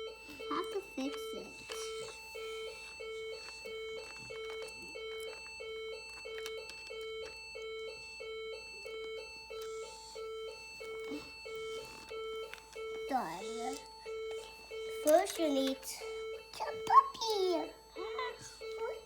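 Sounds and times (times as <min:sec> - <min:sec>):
plinking electronic tune: 0:00.0 - 0:19.0.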